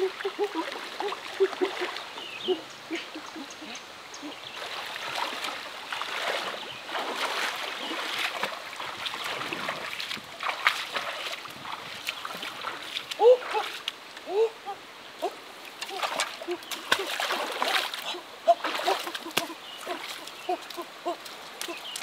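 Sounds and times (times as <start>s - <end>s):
water splashing from wading: 0.0s - 3.0s, 4.5s - 14.6s, 15.2s - 22.0s
stream rushing: 0.0s - 22.0s.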